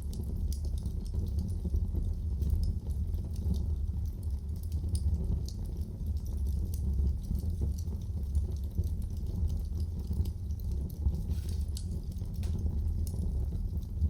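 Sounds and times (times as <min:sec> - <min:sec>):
low rushing of flames: 0:00.0 - 0:14.0
wood fire crackling and popping: 0:00.0 - 0:14.0.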